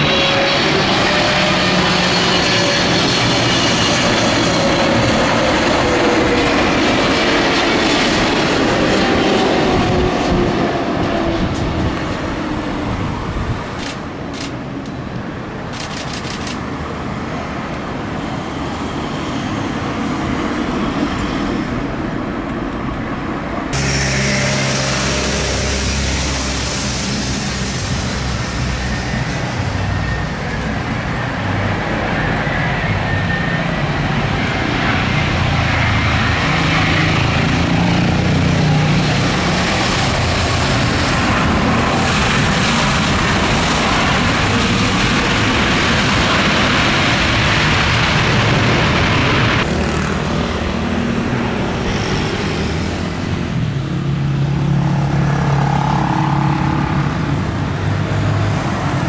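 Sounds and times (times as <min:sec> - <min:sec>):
airliner jet engines on approach: 0:00.0 - 0:59.0
jet airliner landing: 0:00.0 - 0:59.0
road traffic passing: 0:00.0 - 0:59.0.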